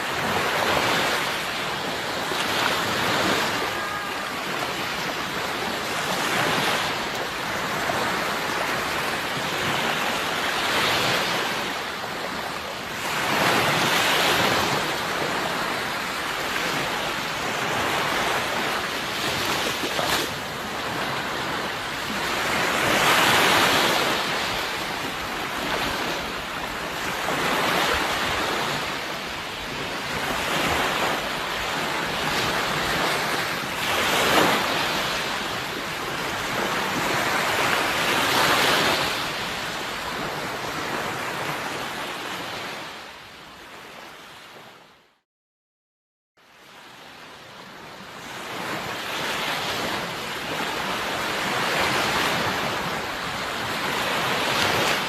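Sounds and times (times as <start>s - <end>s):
sea waves breaking on shore: 0.0s - 45.0s, 46.4s - 55.0s.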